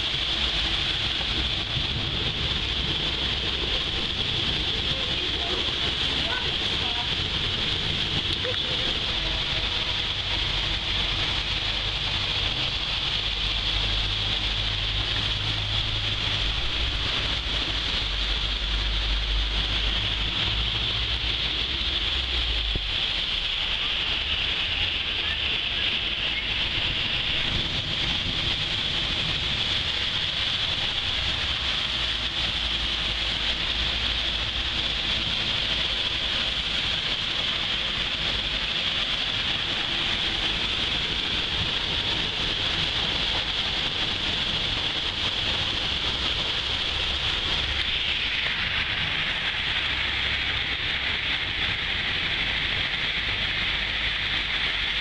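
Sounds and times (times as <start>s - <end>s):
cars swishing through water: 0.0s - 55.0s
heavy rain on street: 0.0s - 55.0s
low rumble: 0.0s - 55.0s.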